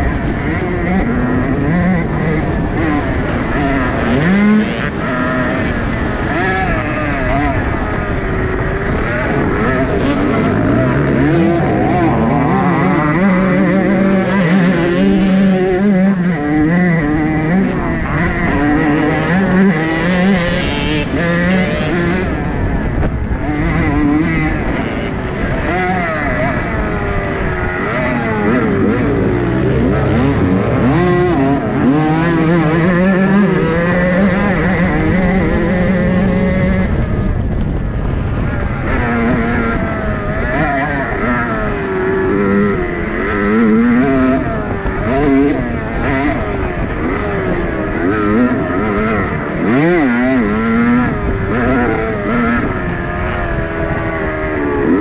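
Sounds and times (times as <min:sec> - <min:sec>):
dirt bike engine revving: 0:00.0 - 0:55.0
other motorbike engines running: 0:00.0 - 0:55.0.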